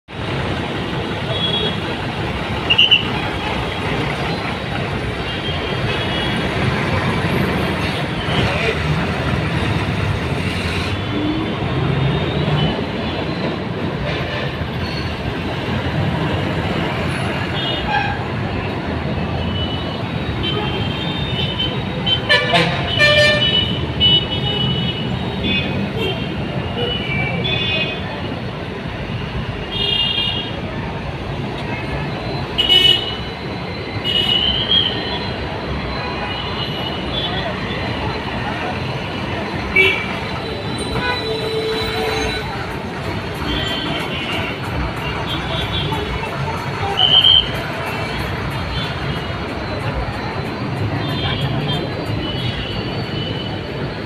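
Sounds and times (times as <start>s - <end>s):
busy road traffic: 0.0s - 54.0s
bus diesel engines: 0.1s - 54.0s.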